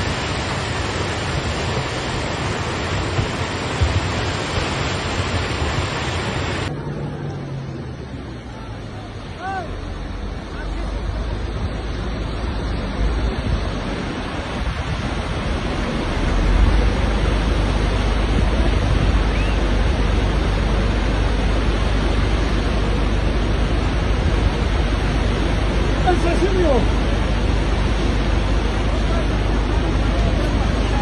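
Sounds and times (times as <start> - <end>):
flood torrent rushing: 0.0 - 31.0.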